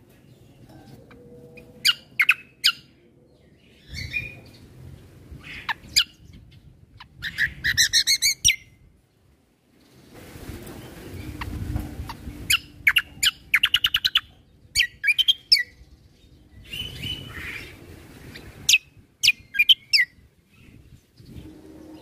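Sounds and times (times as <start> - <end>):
songbird chirping and trilling: 0.1 - 8.9, 10.8 - 22.0.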